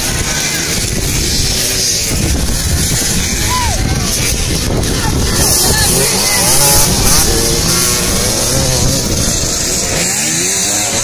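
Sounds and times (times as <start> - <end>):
motocross bikes revving past: 0.0 - 11.0.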